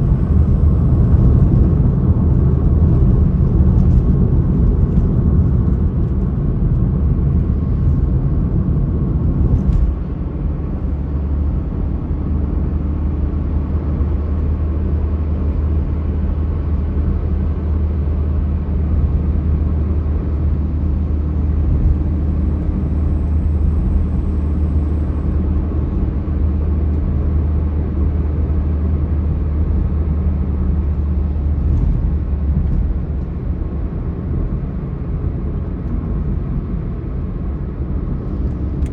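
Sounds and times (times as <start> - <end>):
vehicle engine and road drone: 0.0 - 38.9.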